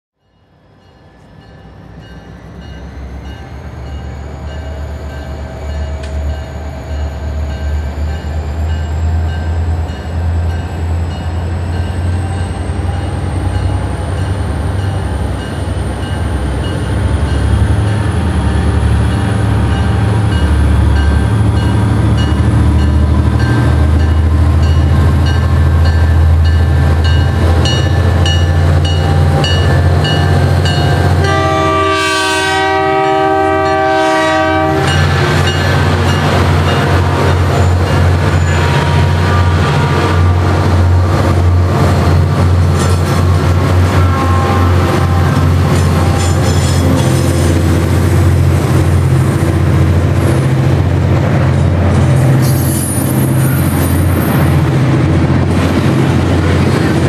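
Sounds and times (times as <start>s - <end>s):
locomotive engines rumbling: 0.8s - 57.0s.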